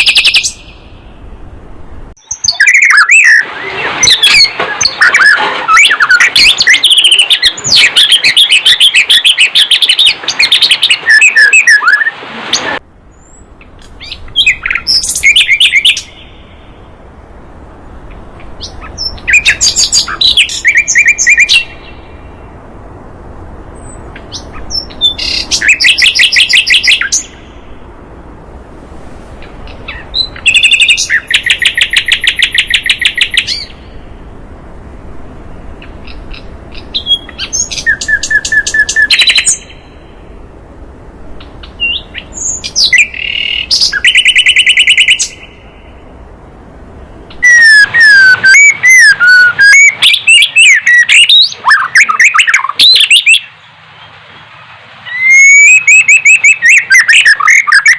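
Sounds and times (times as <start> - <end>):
sliding whistled birdsong: 0.0 - 1.2, 2.2 - 17.0, 18.0 - 22.6, 23.7 - 27.8, 29.4 - 34.2, 35.5 - 40.2, 41.4 - 46.2, 47.1 - 57.9
low hiss: 0.0 - 48.0.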